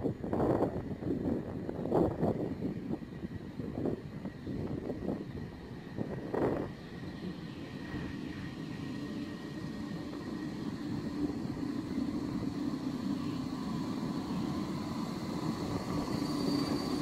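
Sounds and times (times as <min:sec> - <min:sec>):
electric train rumble and hum: 0:00.0 - 0:17.0.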